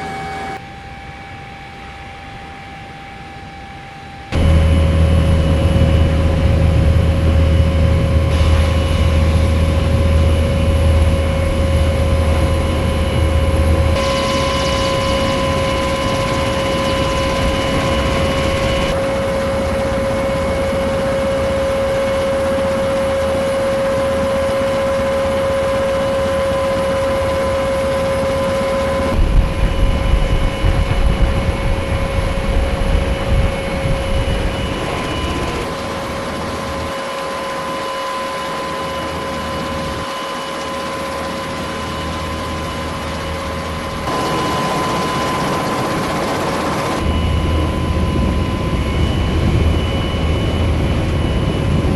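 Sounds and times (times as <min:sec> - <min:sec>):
heavy engine and rotor rumble: 0:00.0 - 0:51.9
helicopter turbine whine: 0:00.0 - 0:51.9.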